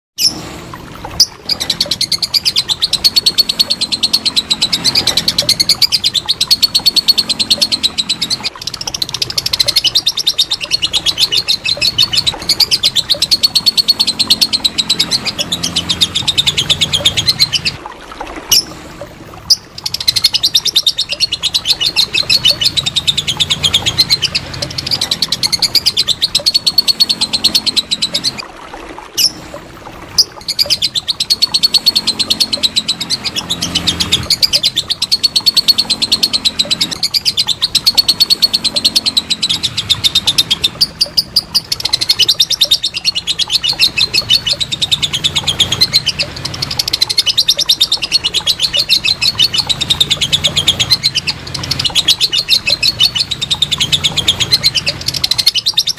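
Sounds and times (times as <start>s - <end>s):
lovebird chattering trill: 1.2s - 17.8s, 19.5s - 28.4s, 30.2s - 55.9s.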